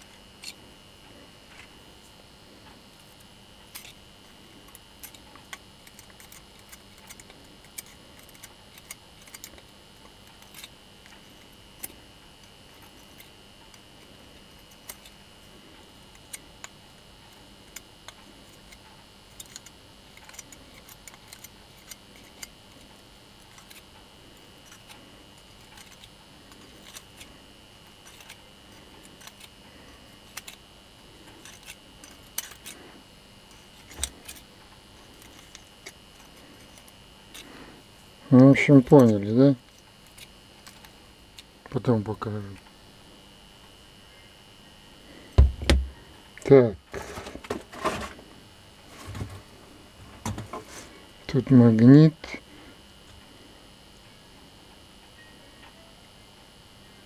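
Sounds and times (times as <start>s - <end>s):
faint high-pitched hum: 0.0s - 57.0s.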